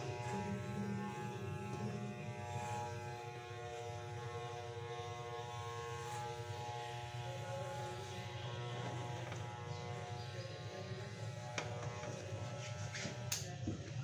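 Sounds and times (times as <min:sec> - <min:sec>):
electric hair clippers buzzing: 0:00.0 - 0:13.5.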